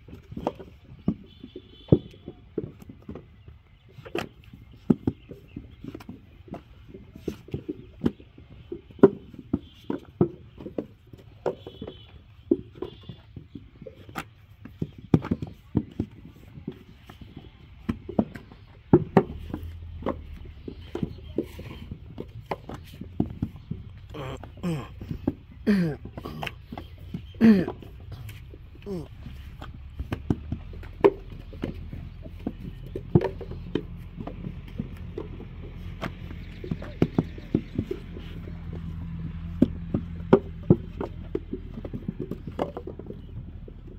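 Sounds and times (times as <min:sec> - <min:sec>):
thuds and knocks of brick making: 0:00.0 - 0:43.9.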